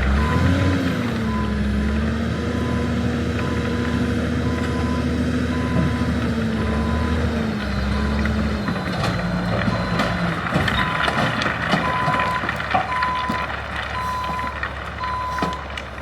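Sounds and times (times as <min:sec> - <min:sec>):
diesel machinery running: 0:00.0 - 0:16.0.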